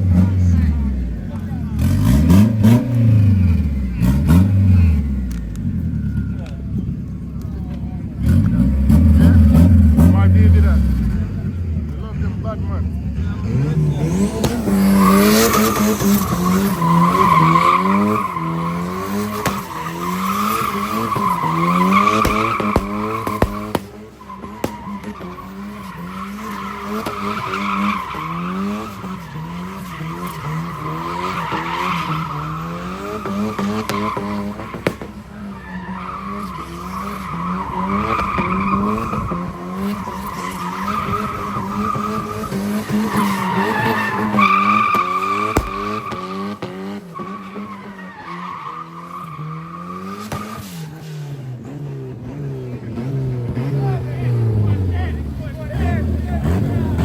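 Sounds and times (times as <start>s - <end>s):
car engine revving: 0.0s - 57.0s
car tyres squealing: 0.0s - 57.0s.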